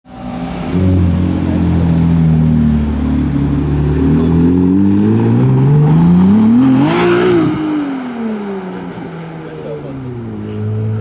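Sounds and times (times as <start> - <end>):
car engine accelerating: 0.1 - 11.0.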